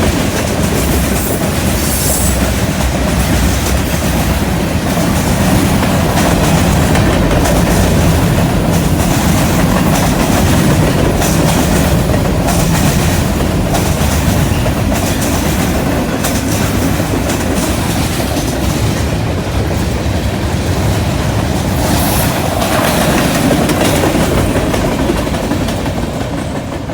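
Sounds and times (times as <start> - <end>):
train rumble: 0.0 - 26.9
train wheels clacking over rails: 0.0 - 26.9.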